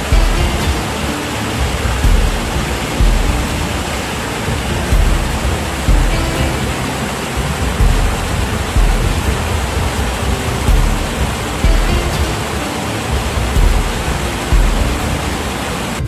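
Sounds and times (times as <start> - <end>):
background music with low beat: 0.0 - 16.0
waterfall pouring onto rocks: 0.0 - 16.0.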